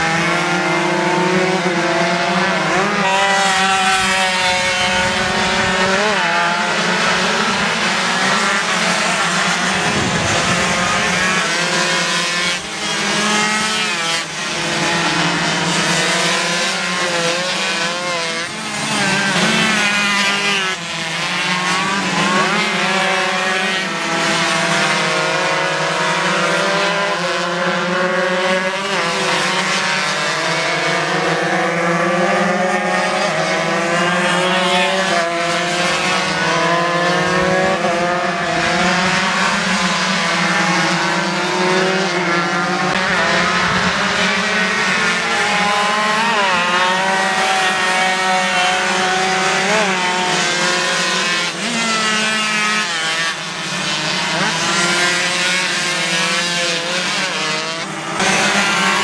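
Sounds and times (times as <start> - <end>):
racing motorcycles at full throttle: 0.0 - 59.0.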